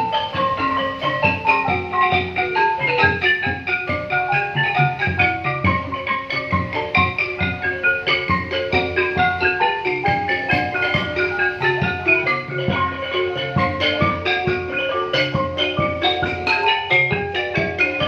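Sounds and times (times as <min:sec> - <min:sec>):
xylophone running notes: 0:00.0 - 0:18.0.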